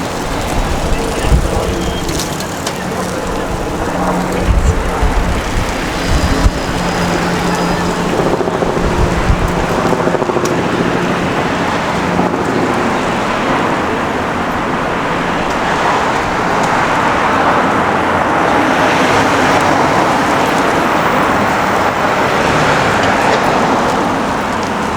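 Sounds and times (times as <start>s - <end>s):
low engine hum: 0.0s - 24.9s
passing vehicles: 0.0s - 24.9s.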